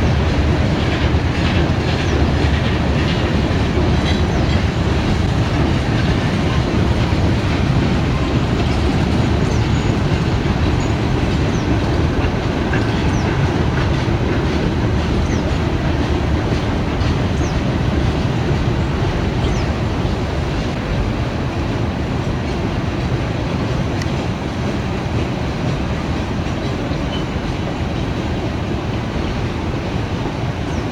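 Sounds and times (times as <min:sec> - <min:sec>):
freight train rumbling past: 0:00.0 - 0:30.9
wheels clacking over rail joints: 0:00.0 - 0:30.9.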